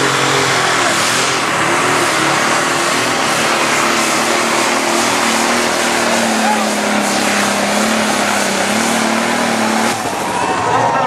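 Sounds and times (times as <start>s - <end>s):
diesel tractor engine at full power: 0.0s - 11.0s
turbo roar: 0.0s - 11.0s.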